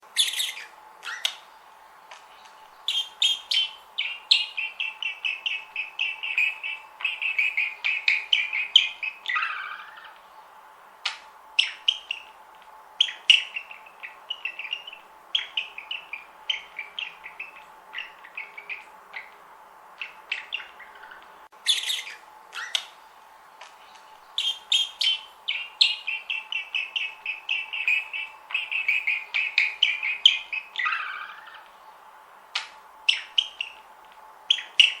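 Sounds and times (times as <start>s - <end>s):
faint steady hum: 0.0s - 35.0s
budgerigars chattering: 0.1s - 12.4s, 13.0s - 23.1s, 23.8s - 32.0s, 32.6s - 33.9s, 34.5s - 35.0s.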